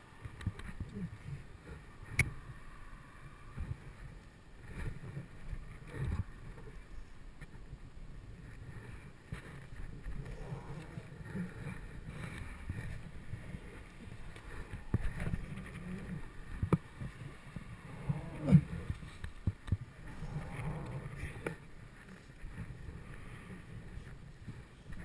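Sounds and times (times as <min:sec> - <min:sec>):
wind buffeting microphone: 0:00.1 - 0:25.0.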